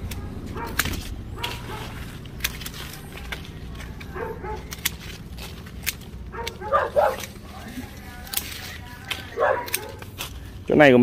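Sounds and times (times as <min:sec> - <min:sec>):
pruning shears snipping branches: 0:00.0 - 0:10.8.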